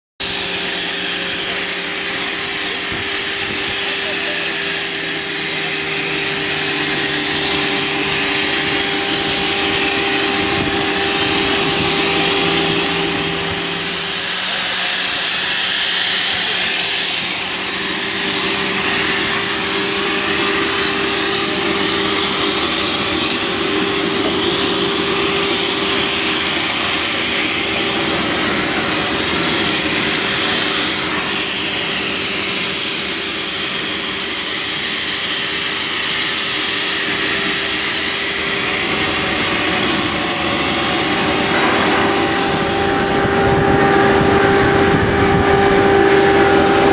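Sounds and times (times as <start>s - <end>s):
machine cutting steel hiss: 0.2s - 46.9s
machine hum: 0.2s - 46.9s.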